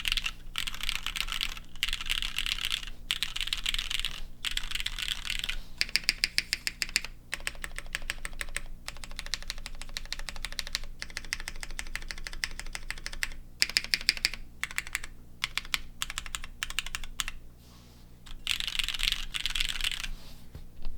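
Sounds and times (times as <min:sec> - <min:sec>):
mechanical keyboard typing: 0:00.0 - 0:17.4, 0:18.3 - 0:20.1.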